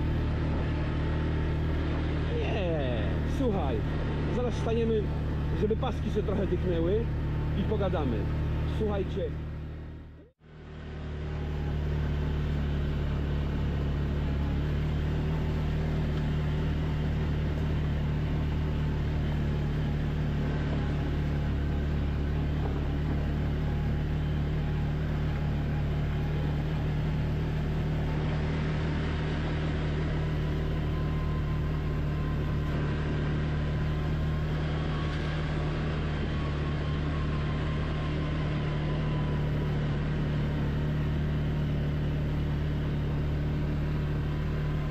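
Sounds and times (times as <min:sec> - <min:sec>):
faint wavering engine note: 0:00.0 - 0:44.9
quad engine running steadily: 0:00.0 - 0:44.9.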